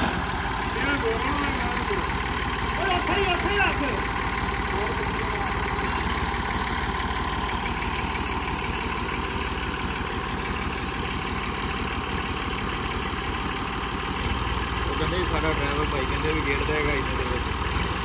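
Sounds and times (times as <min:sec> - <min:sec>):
diesel tractor engines idling: 0:00.0 - 0:18.0.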